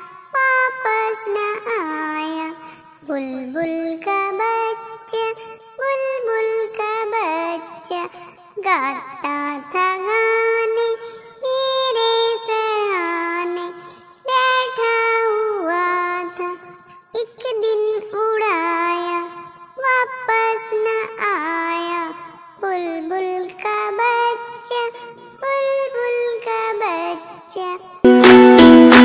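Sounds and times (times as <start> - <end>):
child singing: 0.0 - 29.0.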